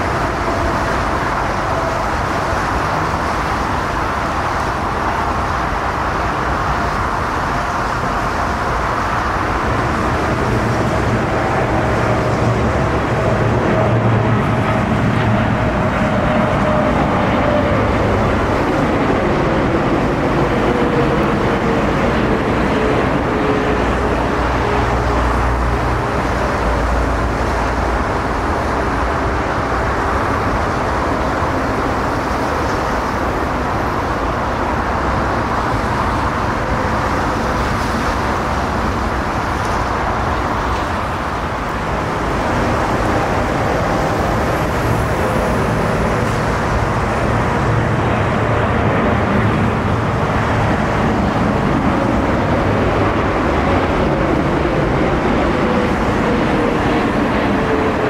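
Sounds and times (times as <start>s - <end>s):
jet engines of landing airliners: 0.0s - 58.0s.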